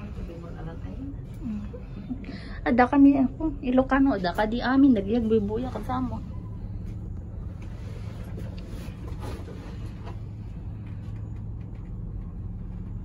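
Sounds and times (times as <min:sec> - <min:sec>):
cable car cabin hum and rumble: 0:00.0 - 0:13.0.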